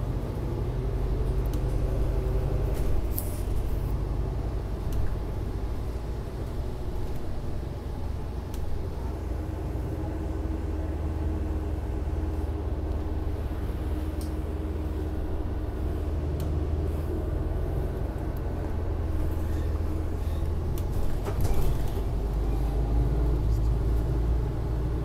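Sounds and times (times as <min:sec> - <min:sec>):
train car low rumble: 0:00.0 - 0:25.0.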